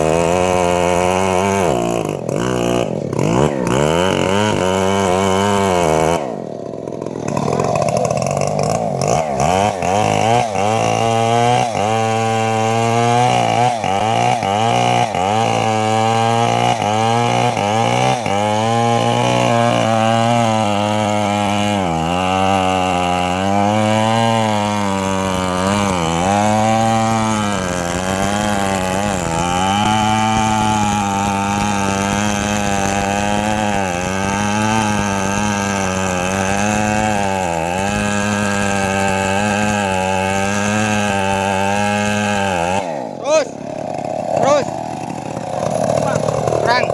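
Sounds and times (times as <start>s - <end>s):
petrol chainsaw cutting wood: 0.0s - 46.9s.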